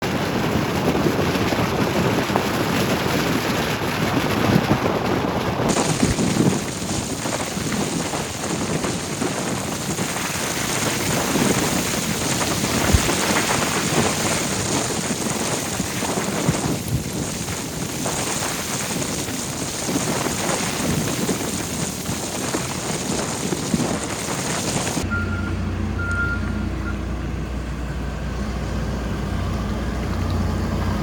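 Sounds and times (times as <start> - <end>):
wind buffeting microphone: 0.0 - 25.3.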